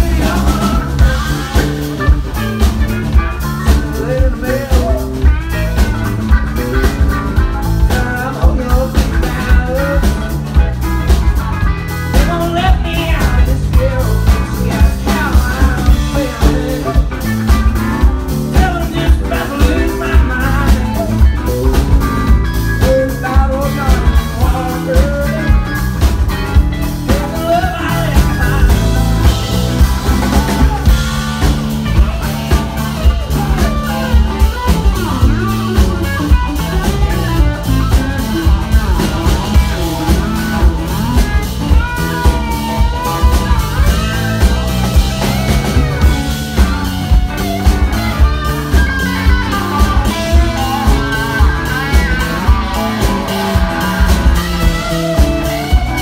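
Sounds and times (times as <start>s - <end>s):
drum kit beat: 0.0s - 56.0s
electric guitar: 0.0s - 56.0s
man singing: 0.0s - 56.0s.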